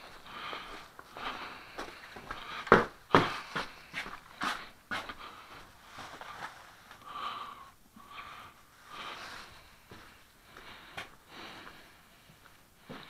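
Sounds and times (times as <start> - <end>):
breathing close to microphone: 0.0 - 13.0.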